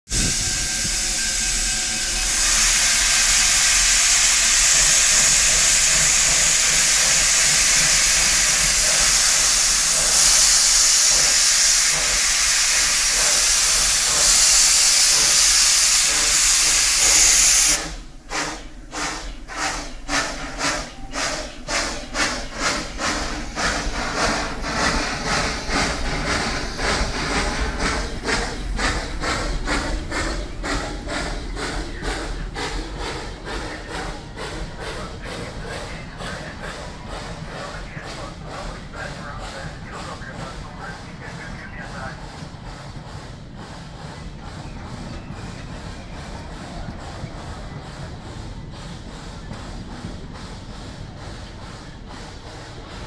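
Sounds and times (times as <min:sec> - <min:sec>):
steam hissing from locomotive: 0:00.1 - 0:53.0
steam locomotive exhaust chuffing: 0:00.1 - 0:53.0.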